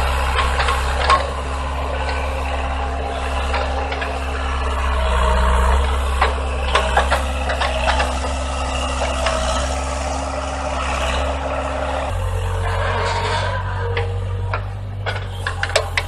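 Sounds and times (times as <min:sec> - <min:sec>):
heavy machine engine running: 0:00.0 - 0:16.0
sharp knocks and clanks: 0:00.0 - 0:16.0.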